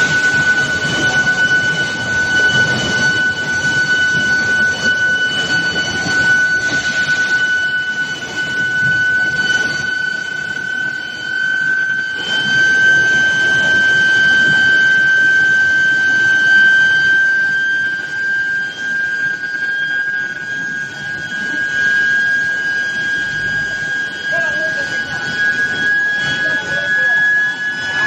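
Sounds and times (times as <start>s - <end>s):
high-pitched furnace whine: 0.0s - 28.0s
rumbling machine noise: 0.0s - 28.0s.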